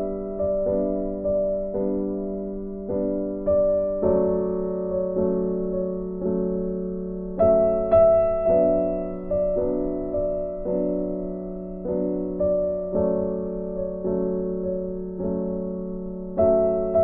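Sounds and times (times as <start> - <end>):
soft electric piano chords: 0.0 - 17.0.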